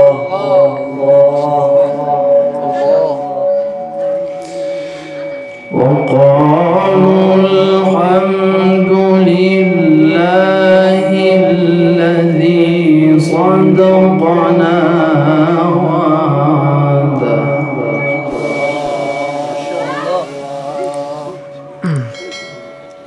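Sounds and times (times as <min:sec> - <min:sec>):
man chanting melodic recitation: 0:00.0 - 0:22.2.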